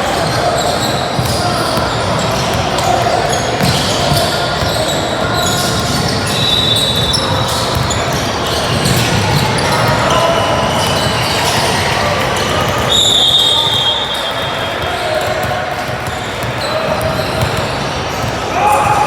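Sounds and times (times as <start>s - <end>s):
crowd hum echoing: 0.0s - 19.0s
sneakers squeaking: 0.0s - 19.0s
basketball bouncing on court: 0.2s - 19.0s.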